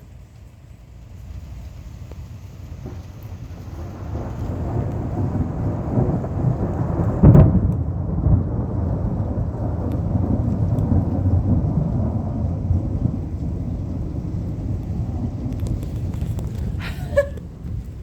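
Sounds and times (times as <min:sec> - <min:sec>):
thunder rumbling: 0:00.0 - 0:18.0
thunder crack: 0:01.3 - 0:18.0.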